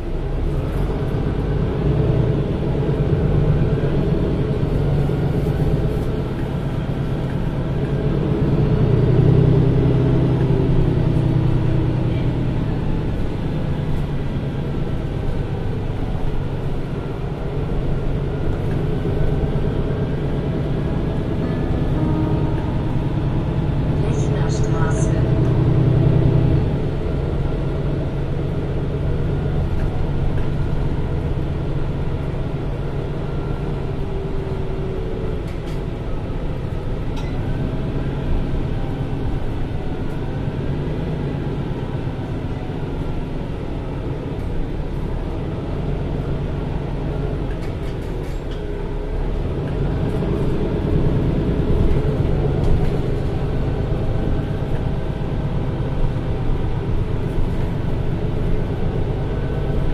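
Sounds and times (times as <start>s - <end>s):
diesel bus engine rumble: 0.0s - 59.9s.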